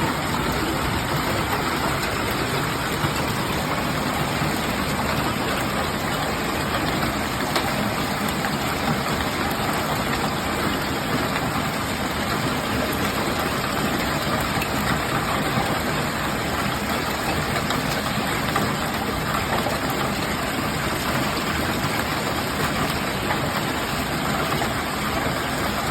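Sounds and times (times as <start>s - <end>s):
hail pelting down: 0.0s - 25.9s.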